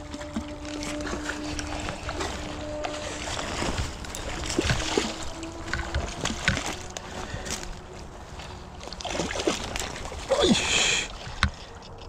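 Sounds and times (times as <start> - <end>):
short splashes and knocks: 0.0 - 11.9
stream water running: 0.0 - 12.0.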